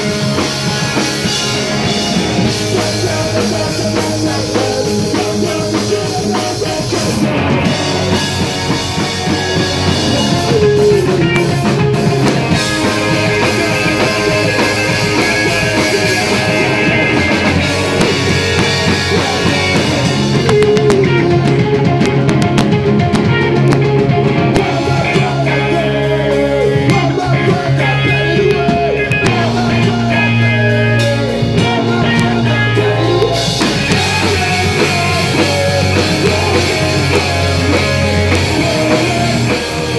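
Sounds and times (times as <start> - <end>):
bass guitar: 0.0 - 39.9
distorted electric guitars: 0.0 - 39.9
drum kit: 0.0 - 39.9
man singing lead vocal: 0.0 - 39.9.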